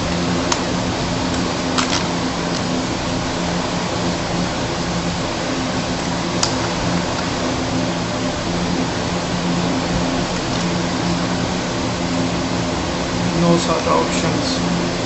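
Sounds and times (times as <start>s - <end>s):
computer fans whirring: 0.0s - 15.0s.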